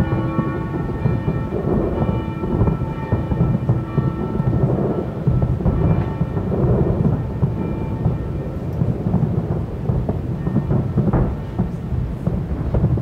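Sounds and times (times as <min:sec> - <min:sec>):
fireworks bangs and crackles: 0:00.0 - 0:13.0
fireworks booming: 0:00.0 - 0:13.0.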